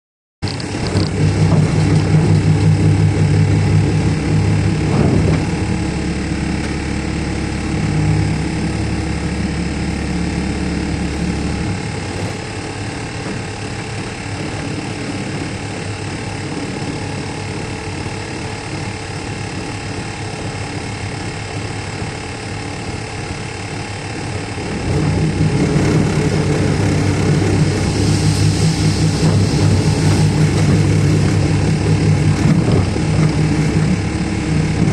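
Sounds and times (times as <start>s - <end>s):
excavator diesel engine working: 0.4s - 34.9s.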